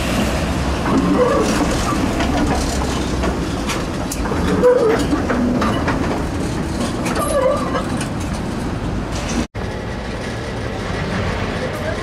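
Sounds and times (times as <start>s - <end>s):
streetcar rumble: 0.0s - 12.0s
wheels clacking over track: 0.4s - 12.0s.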